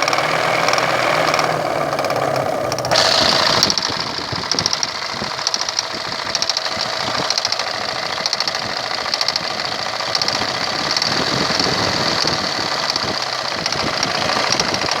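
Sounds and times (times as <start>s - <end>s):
engine running: 0.0s - 15.0s
hydraulic pump knocking: 0.0s - 15.0s.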